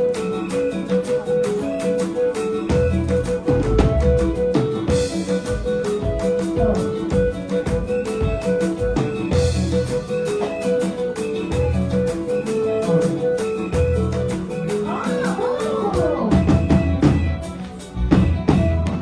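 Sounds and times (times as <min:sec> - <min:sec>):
plucked guitar notes: 0:00.0 - 0:19.0
steady drum beat: 0:00.0 - 0:19.0.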